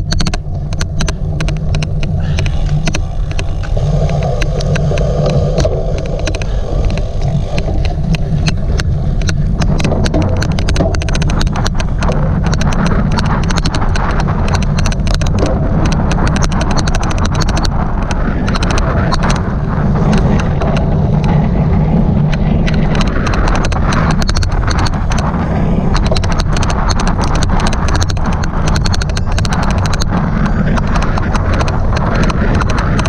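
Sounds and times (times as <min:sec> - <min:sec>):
rapid irregular clicking: 0:00.0 - 0:33.0
steady low rumble: 0:00.0 - 0:33.0.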